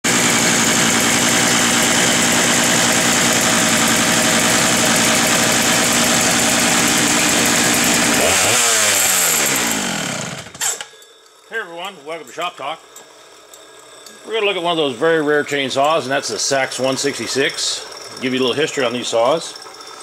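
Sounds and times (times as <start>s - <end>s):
chainsaw engine running: 0.1s - 10.9s, 14.2s - 20.0s.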